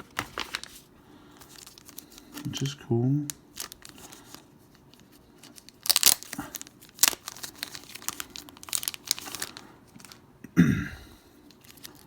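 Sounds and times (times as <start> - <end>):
plastic bag crinkling: 0.0 - 10.3, 11.4 - 12.0.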